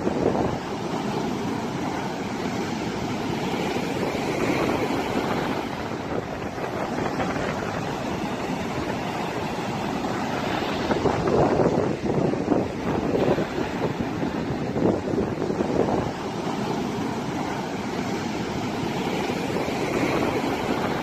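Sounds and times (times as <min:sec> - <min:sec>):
sea surf breaking on beach: 0:00.0 - 0:21.0.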